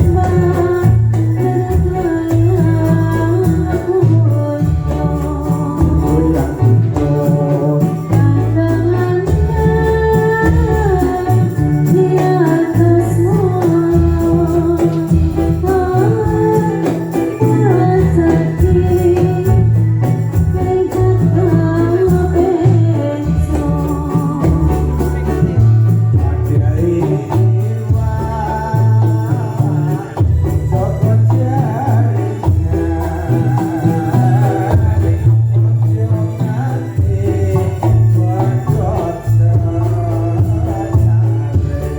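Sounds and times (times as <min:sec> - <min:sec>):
jingling tambourine percussion: 0:00.0 - 0:41.9
low drum and bass beat: 0:00.0 - 0:41.9
person singing: 0:00.0 - 0:41.9.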